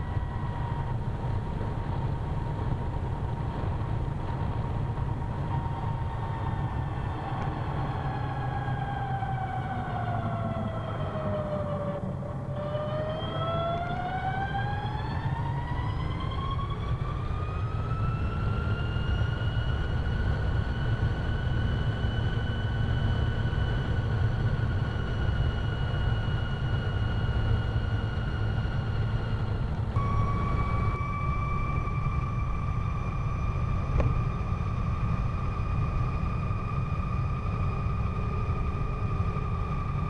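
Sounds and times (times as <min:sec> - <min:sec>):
electric scooter drive whining: 0:00.0 - 0:40.0
wind and road noise rumble: 0:00.0 - 0:40.0.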